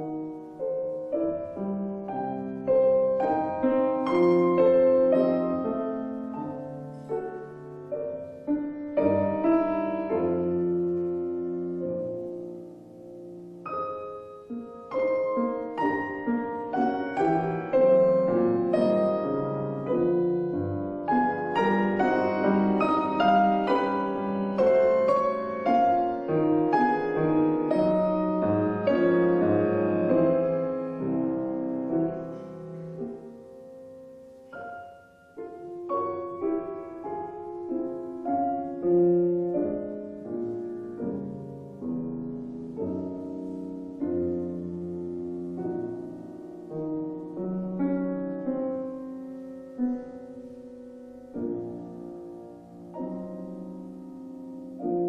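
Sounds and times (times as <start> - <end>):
slow gentle piano: 0.0 - 55.0.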